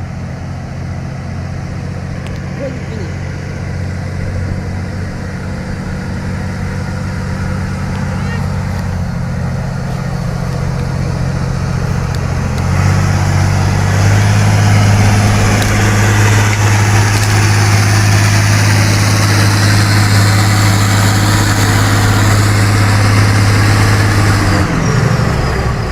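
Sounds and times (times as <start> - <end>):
truck engine running: 0.0 - 25.9.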